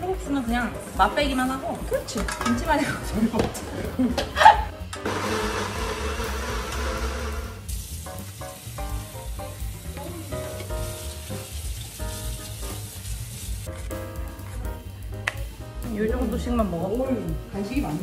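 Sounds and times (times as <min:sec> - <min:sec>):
background music with beat: 0:00.0 - 0:18.0
food sizzling: 0:00.2 - 0:18.0.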